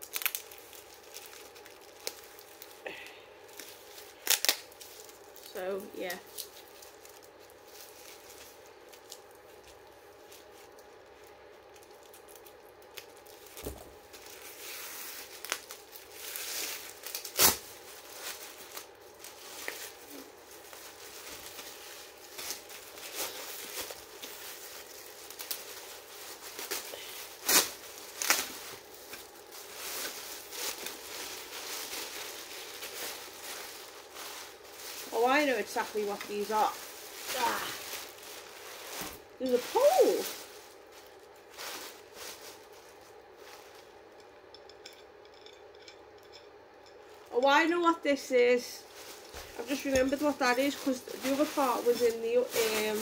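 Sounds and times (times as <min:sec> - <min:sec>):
plastic packaging crinkling: 0:00.0 - 0:47.8, 0:48.4 - 0:53.0.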